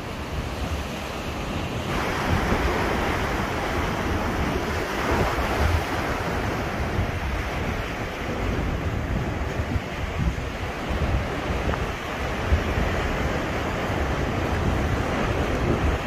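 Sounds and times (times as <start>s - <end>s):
waves washing at shore: 0.0s - 16.0s
wind buffeting microphone: 0.0s - 16.0s.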